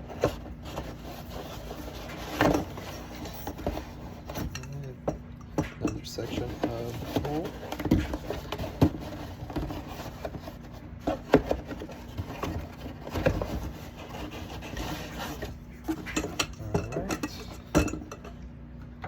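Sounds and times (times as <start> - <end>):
rubbing and rustling: 0.0 - 4.5, 6.1 - 17.6.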